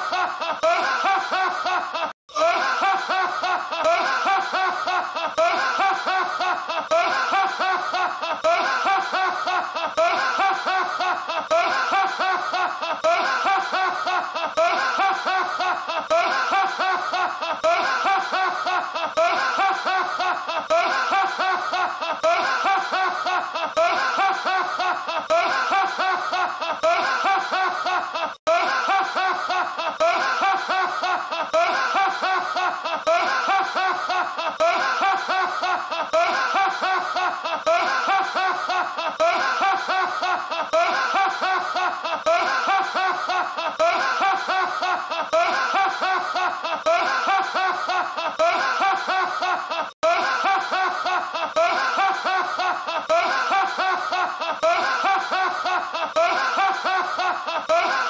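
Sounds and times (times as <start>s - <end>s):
man laughing: 0.0s - 58.0s.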